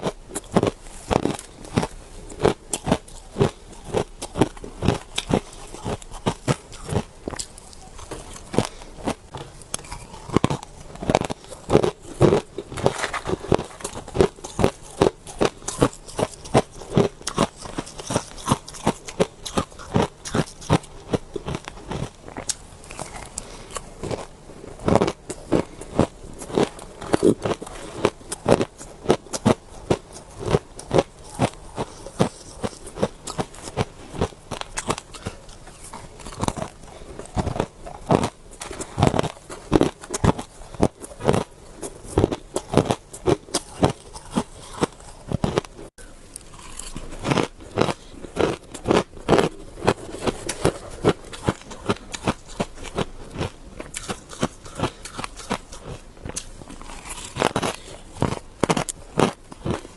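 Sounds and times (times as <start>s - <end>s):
crunching shaved ice: 0.0s - 45.7s, 46.3s - 59.9s.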